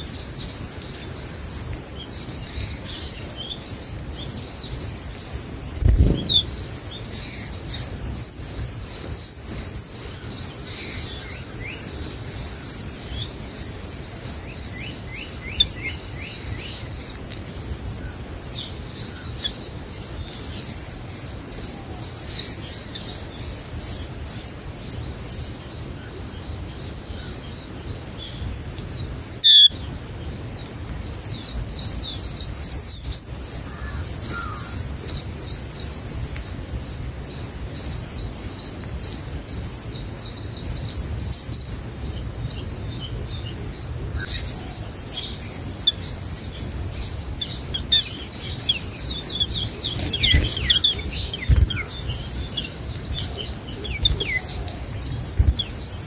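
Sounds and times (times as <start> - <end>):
nestlings begging chirps: 0.0 - 29.9, 30.6 - 56.0.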